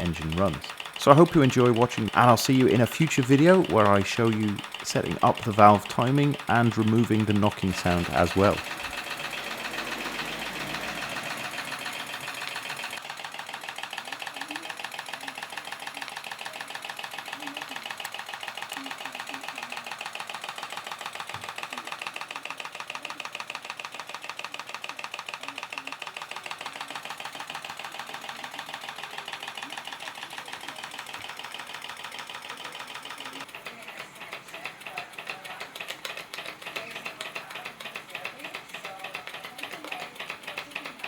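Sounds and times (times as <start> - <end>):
engine knocking: 0.0 - 41.0
model steam engine beating: 0.0 - 41.0.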